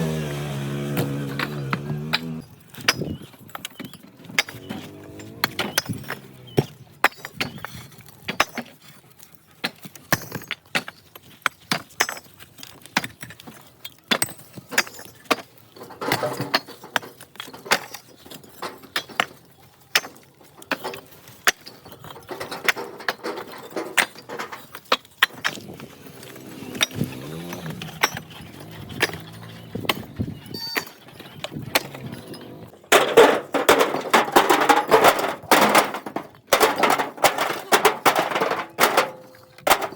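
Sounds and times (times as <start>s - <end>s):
bricks clinking together: 0.9s - 9.0s, 9.6s - 39.9s.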